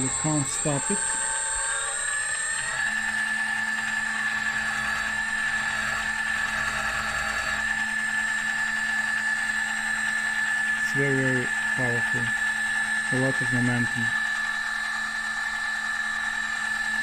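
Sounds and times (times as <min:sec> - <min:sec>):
lathe motor whining: 0:00.0 - 0:17.0.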